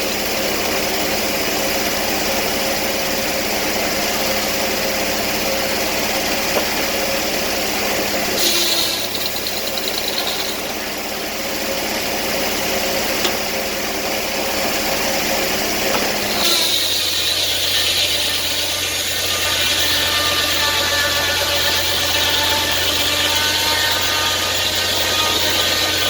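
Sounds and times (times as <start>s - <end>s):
sawmill engine running: 0.0s - 26.0s.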